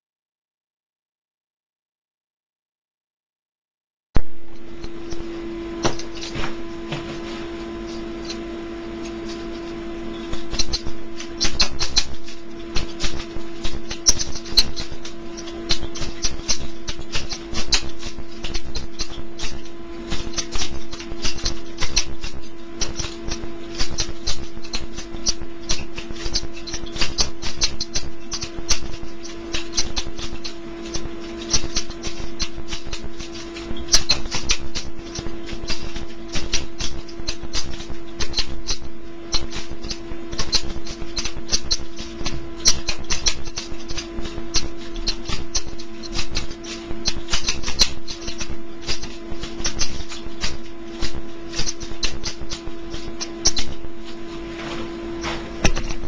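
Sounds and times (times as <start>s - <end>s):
steady hum: 4.2s - 56.0s.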